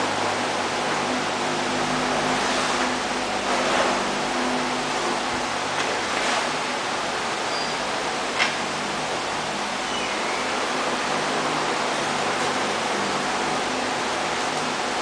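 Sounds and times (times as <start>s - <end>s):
machine motor hum: 0.0s - 15.0s.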